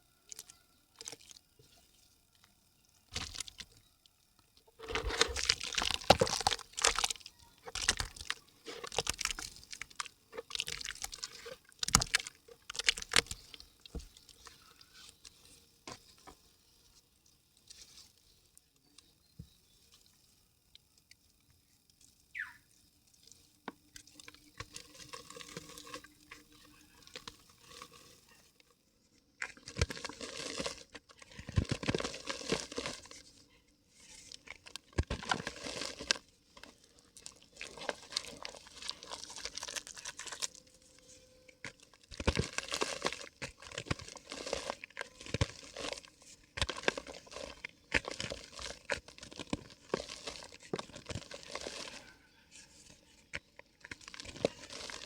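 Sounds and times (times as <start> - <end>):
dry mud crackling and crumbling: 0.0 - 55.0.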